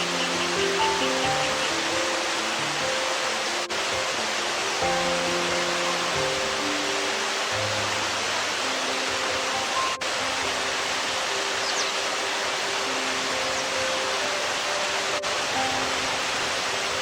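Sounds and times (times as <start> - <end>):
flowing river water: 0.0 - 17.0
soft background music: 0.0 - 17.0.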